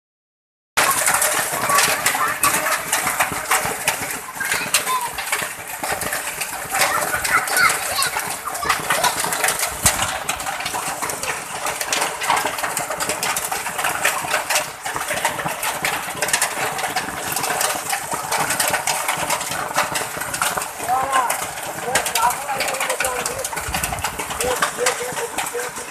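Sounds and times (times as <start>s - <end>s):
hail pelting asphalt: 0.8s - 25.9s.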